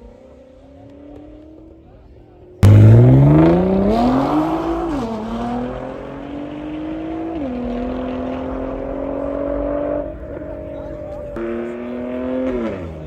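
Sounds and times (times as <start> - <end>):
car engine accelerating hard: 0.2 - 13.0.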